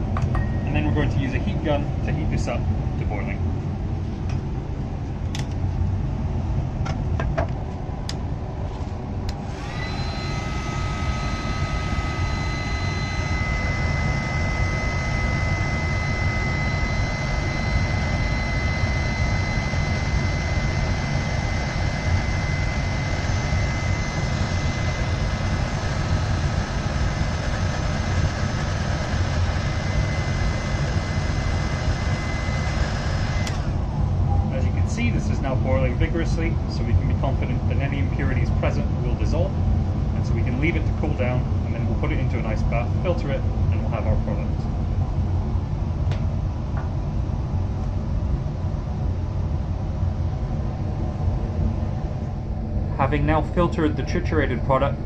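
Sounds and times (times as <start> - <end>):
heat gun fan blowing: 0.0 - 55.0
high whine: 0.0 - 55.0.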